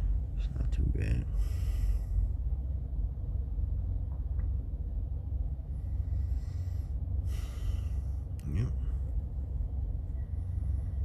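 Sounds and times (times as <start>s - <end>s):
truck engine rumble from cab: 0.0s - 11.0s.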